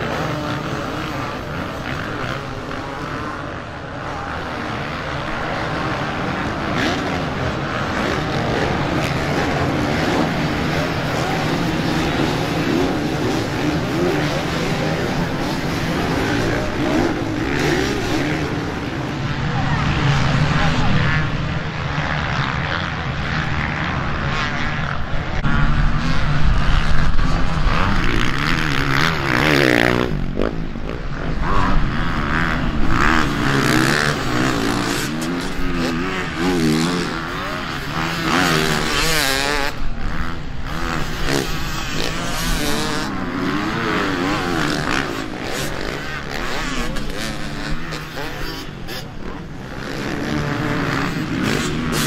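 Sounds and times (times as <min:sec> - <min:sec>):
motocross bikes revving: 0:00.0 - 0:52.0.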